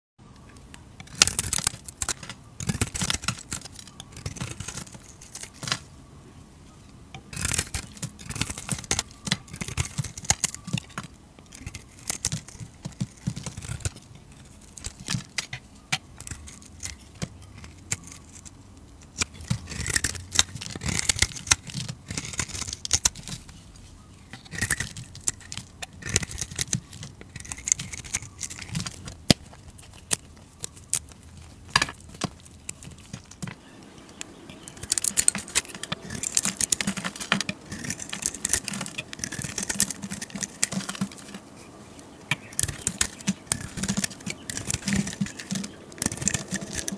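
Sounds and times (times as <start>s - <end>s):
fingers crumbling soap shavings: 0.4s - 5.9s, 7.2s - 46.9s
blade scraping soap: 1.0s - 5.8s, 7.2s - 33.6s, 34.6s - 46.9s
soap shavings crackling: 1.0s - 5.9s, 7.2s - 46.9s.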